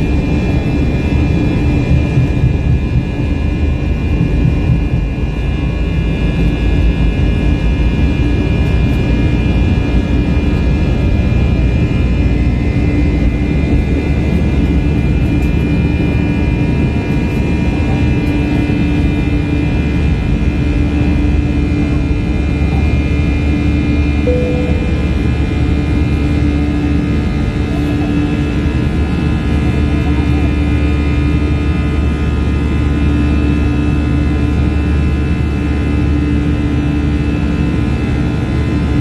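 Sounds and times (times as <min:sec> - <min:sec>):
jet engines rumbling in cabin: 0:00.0 - 0:39.0.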